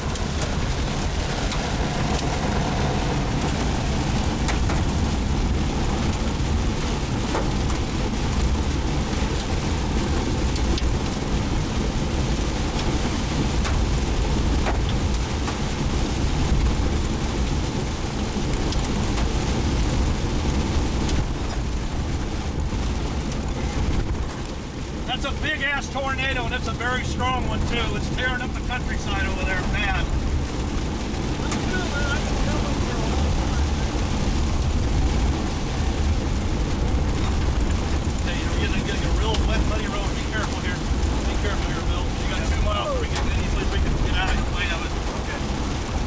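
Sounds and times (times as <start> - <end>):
wind noise: 0.0 - 25.2, 27.5 - 46.0
engine and road rumble: 0.0 - 46.0.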